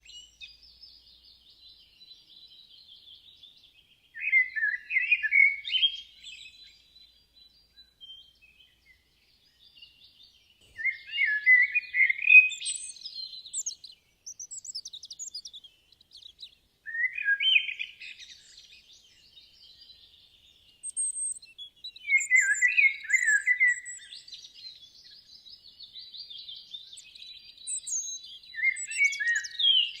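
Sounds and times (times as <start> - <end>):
birds twittering and chirping: 0.0 - 30.0
songbird singing song phrase: 0.0 - 30.0.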